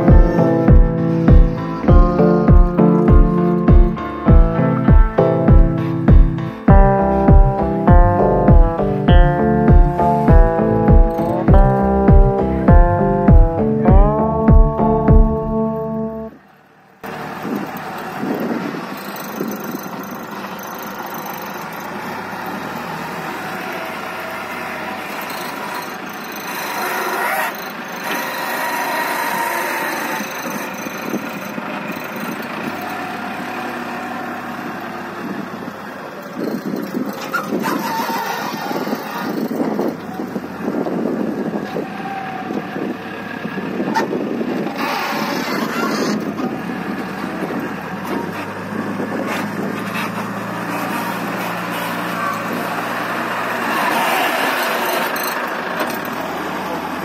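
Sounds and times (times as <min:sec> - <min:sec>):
wheel loader diesel engine: 0:00.0 - 0:57.0.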